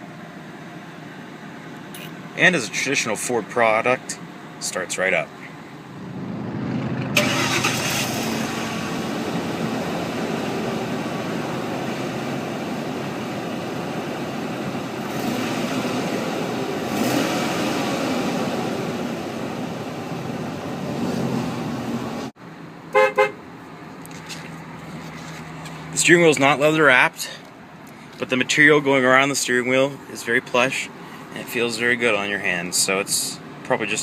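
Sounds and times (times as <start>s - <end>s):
engine running: 0.0s - 31.7s.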